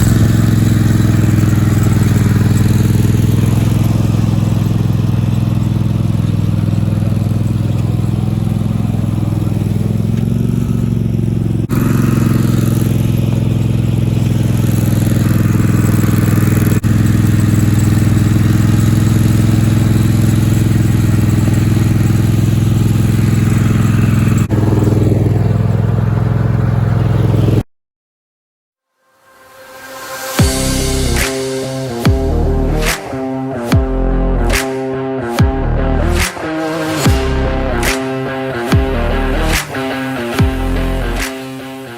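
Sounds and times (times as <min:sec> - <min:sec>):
riding mower engine running: 0:00.0 - 0:27.6, 0:30.1 - 0:41.9.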